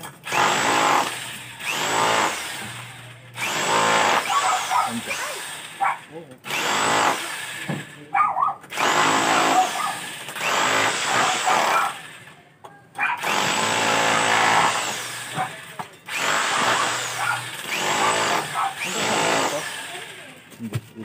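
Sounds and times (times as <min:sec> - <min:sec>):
electric drill whining: 0:00.2 - 0:05.8, 0:06.4 - 0:08.0, 0:08.7 - 0:12.4, 0:13.2 - 0:20.5.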